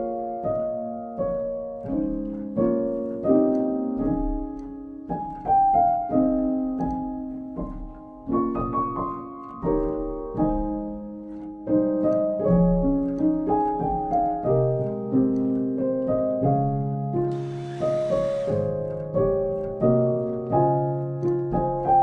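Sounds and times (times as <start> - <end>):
soft solo piano: 0.0 - 22.0.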